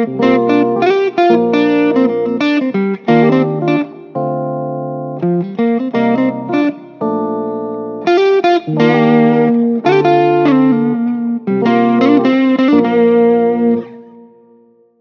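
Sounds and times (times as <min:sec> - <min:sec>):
guitar chords with effects: 0:00.0 - 0:15.0.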